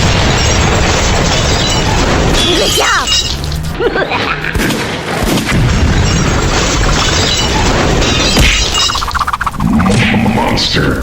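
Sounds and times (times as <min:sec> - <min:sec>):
sharp crashes: 0:00.0 - 0:10.2
booming impact effects: 0:00.0 - 0:10.5.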